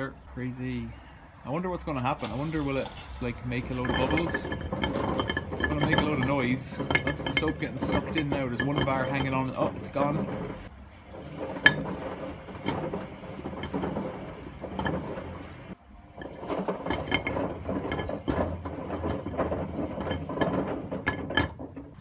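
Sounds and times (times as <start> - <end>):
washing machine hum: 0.0 - 22.0.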